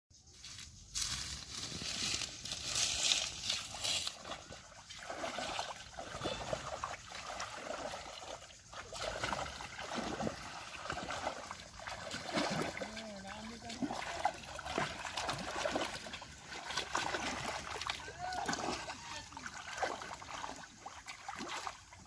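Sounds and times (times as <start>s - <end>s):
pond water sloshing and trickling: 0.2s - 22.0s.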